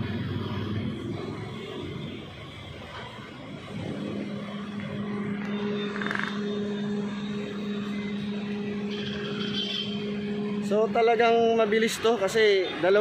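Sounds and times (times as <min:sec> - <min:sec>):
heavy diesel engine drone: 0:00.0 - 0:13.0.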